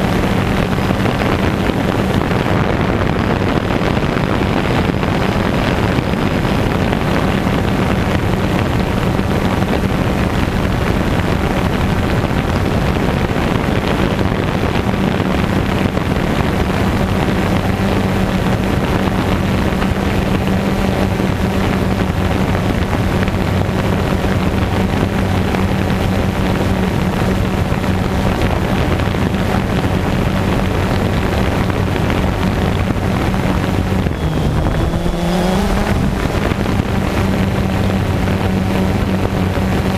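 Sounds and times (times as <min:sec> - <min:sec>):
drone propellers humming: 0:00.0 - 0:39.9
wind on microphone: 0:00.0 - 0:39.9.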